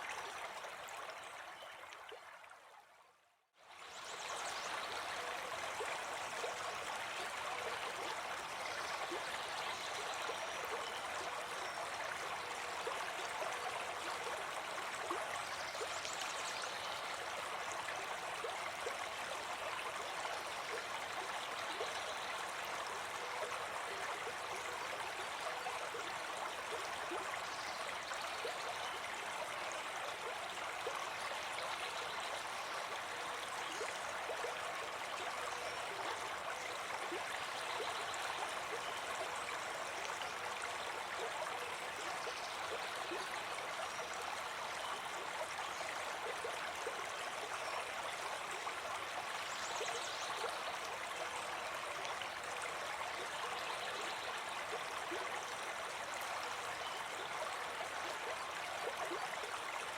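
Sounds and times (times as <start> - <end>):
brook babbling: 0.0 - 59.9.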